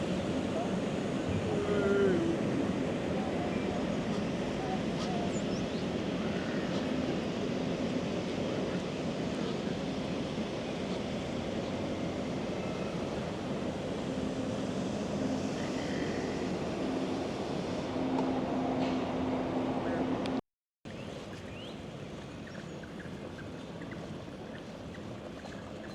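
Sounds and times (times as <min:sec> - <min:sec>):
faint engine hum: 0:00.0 - 0:25.9
traffic rumble: 0:00.0 - 0:25.9.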